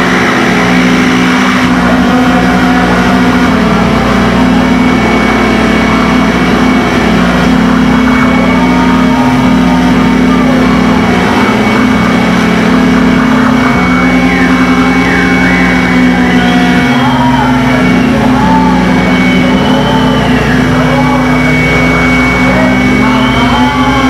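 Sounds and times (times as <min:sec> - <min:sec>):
low droning electronic tones: 0:00.0 - 0:24.0
thin steady high tone: 0:00.0 - 0:24.0.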